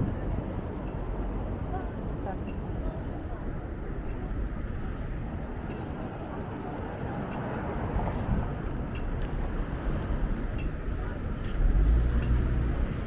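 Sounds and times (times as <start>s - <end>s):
city street noise: 0.0s - 13.0s
wind buffeting microphone: 0.0s - 13.0s.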